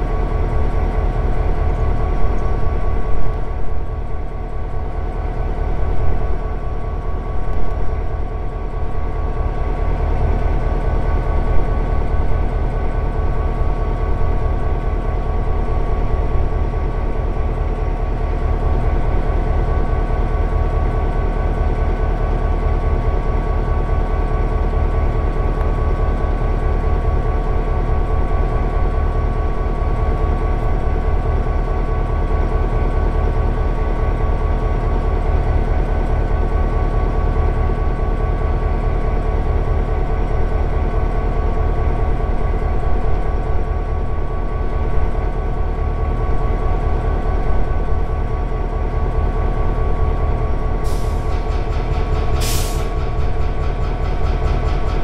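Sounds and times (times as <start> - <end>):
diesel locomotive idling: 0.0 - 55.0.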